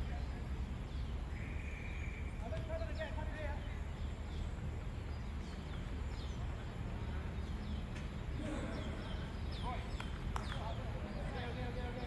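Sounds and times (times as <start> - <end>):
bird chirping: 0.1 - 12.0.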